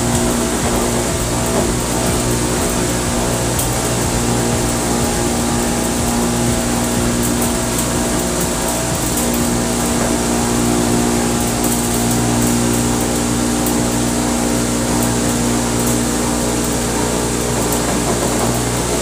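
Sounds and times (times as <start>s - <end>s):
cotton candy machine humming: 0.0s - 19.0s.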